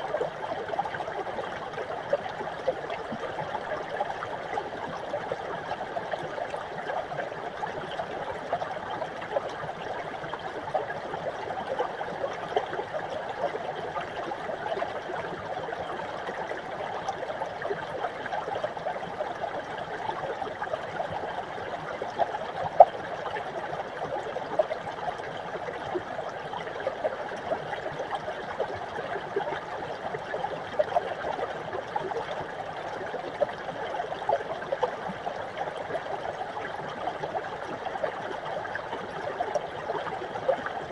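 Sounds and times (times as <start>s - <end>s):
brook babbling over rocks: 0.0s - 40.9s.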